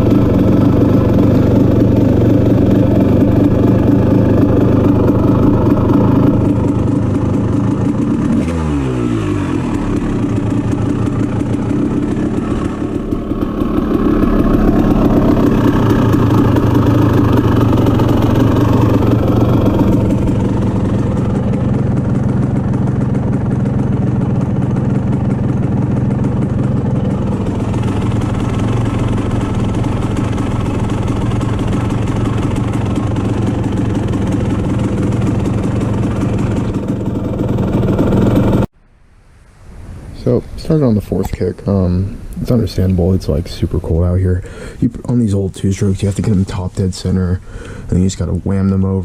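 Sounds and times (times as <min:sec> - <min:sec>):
two-stroke engine idling: 0:00.0 - 0:38.7, 0:44.1 - 0:49.0.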